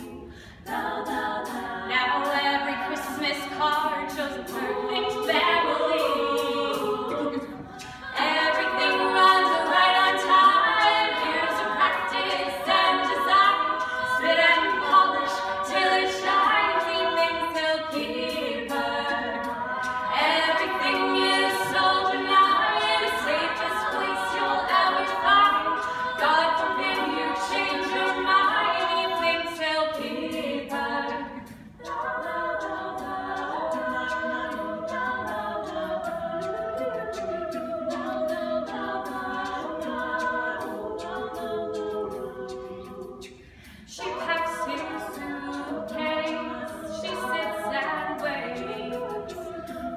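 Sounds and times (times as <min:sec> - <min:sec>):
group singing in close harmony: 0:00.0 - 0:49.9.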